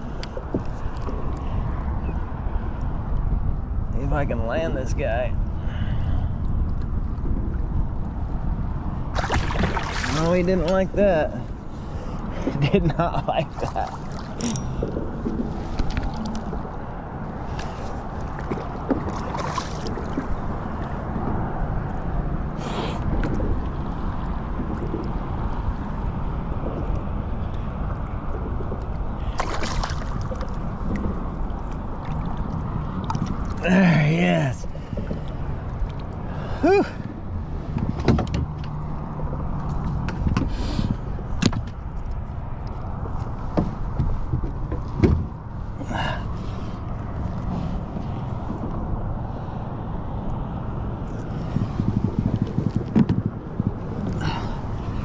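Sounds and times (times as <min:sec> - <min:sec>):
water lapping against hull: 0:00.0 - 0:03.8, 0:05.0 - 0:55.0
wind buffeting microphone: 0:00.0 - 0:55.0.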